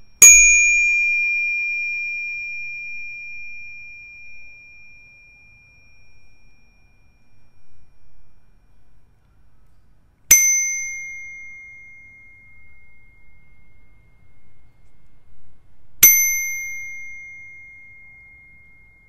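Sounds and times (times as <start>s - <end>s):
bicycle bell ding: 0.0s - 8.8s, 10.3s - 14.2s, 16.0s - 19.0s.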